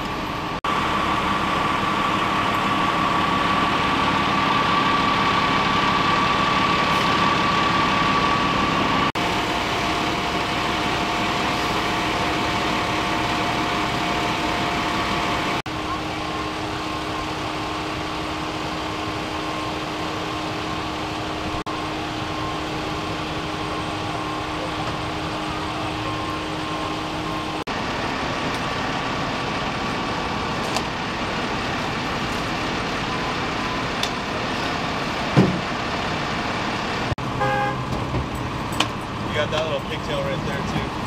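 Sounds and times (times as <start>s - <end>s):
diesel engines idling: 0.0s - 41.0s.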